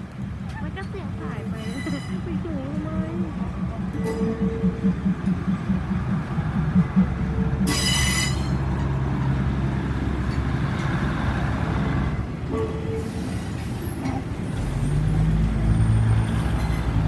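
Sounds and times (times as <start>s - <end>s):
diesel train engine drone: 0.0s - 17.0s
rail noise: 0.0s - 17.0s.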